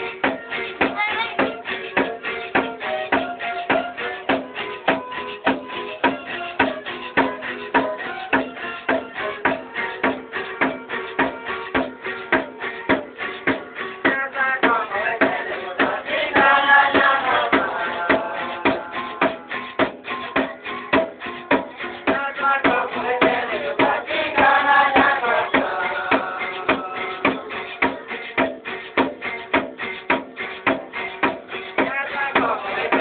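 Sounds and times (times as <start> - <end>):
folk music: 0.0 - 33.0
quick percussive beat: 0.0 - 33.0.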